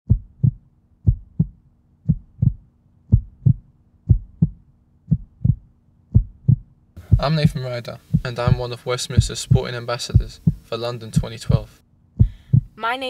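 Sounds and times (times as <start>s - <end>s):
heartbeat thumps: 0.1s - 12.8s
faint steady hum: 0.1s - 13.0s.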